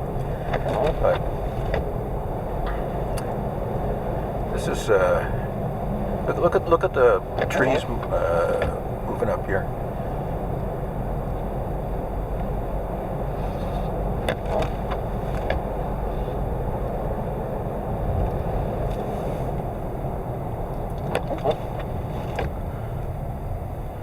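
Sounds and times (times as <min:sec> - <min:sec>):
car cabin rumble: 0:00.0 - 0:24.0.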